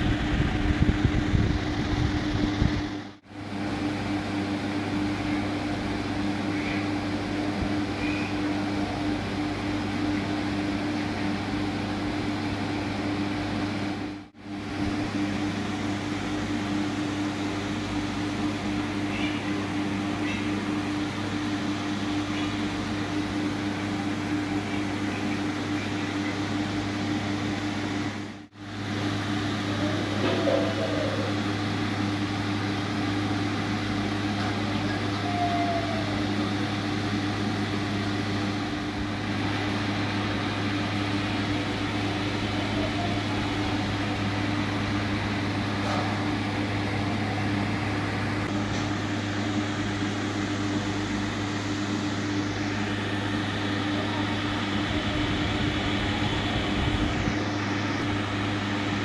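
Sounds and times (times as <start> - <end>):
mechanical hum with hiss: 0.0 - 59.0.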